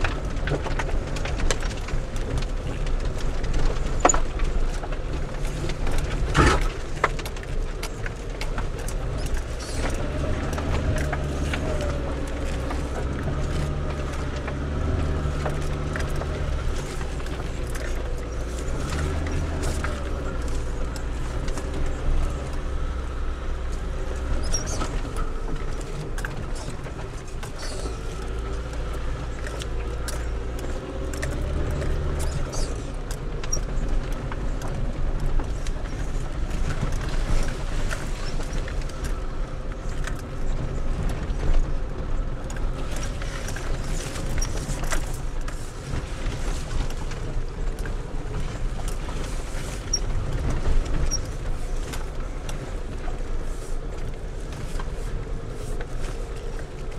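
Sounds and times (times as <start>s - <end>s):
car engine running: 0.0s - 56.9s
car knocking and rattling over ruts: 0.0s - 56.9s.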